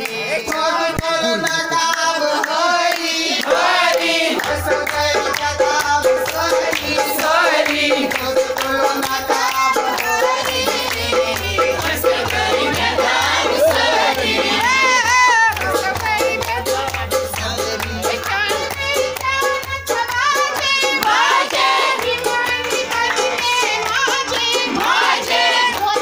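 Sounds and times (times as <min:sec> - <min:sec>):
group singing: 0:00.0 - 0:26.0.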